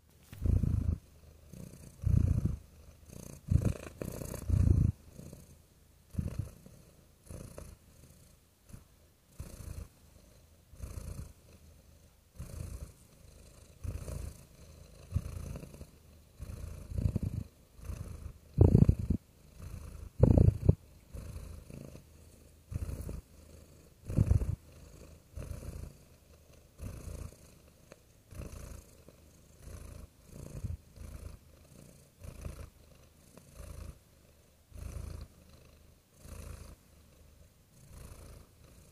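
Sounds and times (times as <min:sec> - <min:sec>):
cat purring: 0:00.3 - 0:38.9.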